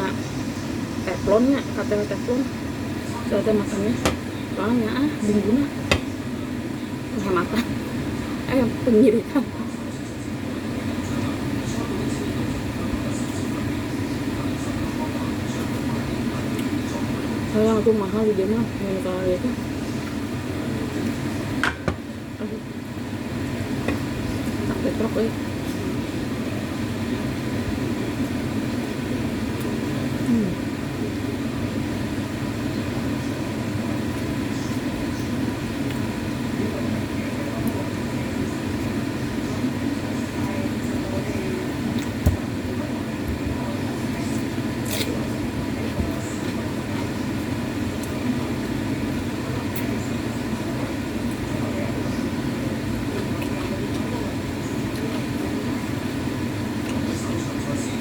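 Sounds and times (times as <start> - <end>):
low rumbling background noise: 0.0 - 58.0.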